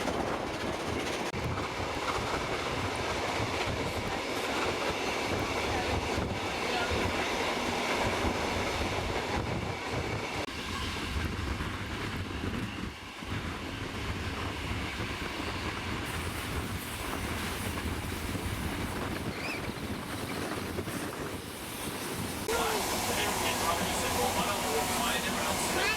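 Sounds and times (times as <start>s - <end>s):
train rumbling along track: 0.0s - 25.9s.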